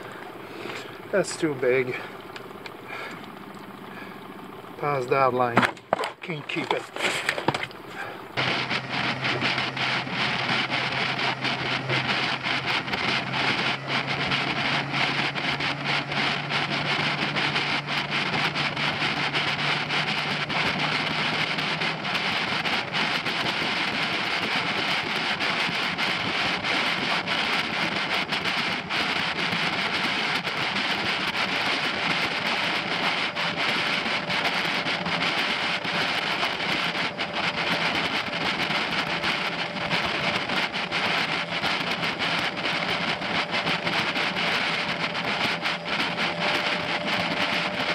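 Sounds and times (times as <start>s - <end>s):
outboard motor running: 0.0s - 47.9s
wind and water rushing: 0.0s - 47.9s.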